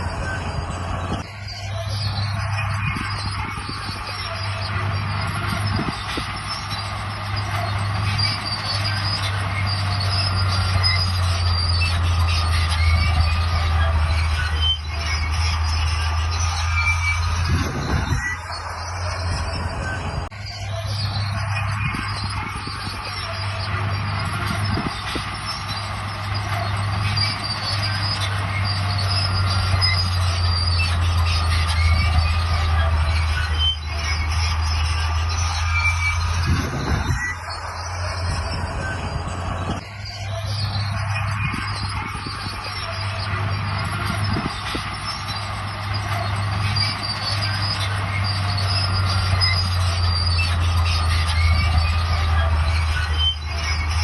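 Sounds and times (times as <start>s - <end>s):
diesel engine drone: 0.0s - 54.0s
steel tracks squealing and clanking: 0.0s - 54.0s.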